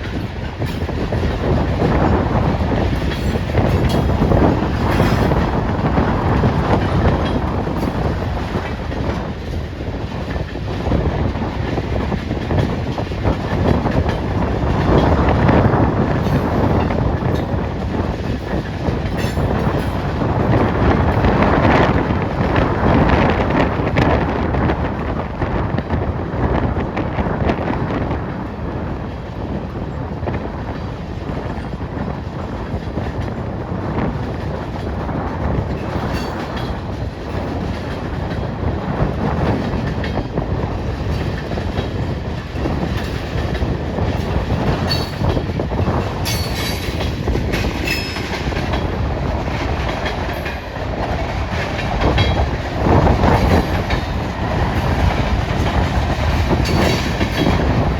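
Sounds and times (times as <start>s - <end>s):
freight train rumbling: 0.0s - 57.9s.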